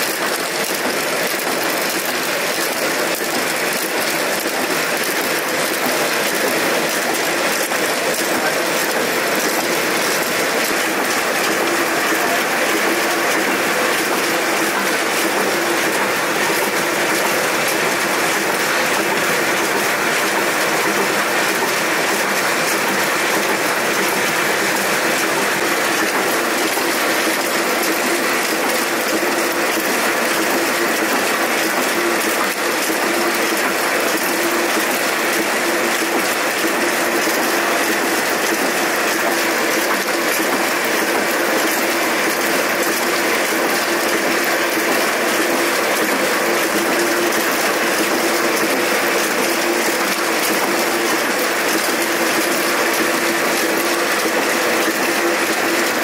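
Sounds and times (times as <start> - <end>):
printing press clattering: 0.0 - 56.0.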